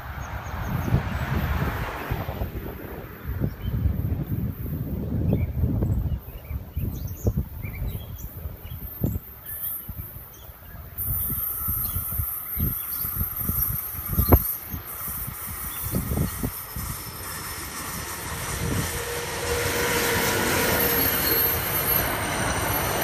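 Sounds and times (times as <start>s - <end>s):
wind on microphone: 0.0s - 20.8s
electric train approaching: 0.0s - 23.0s.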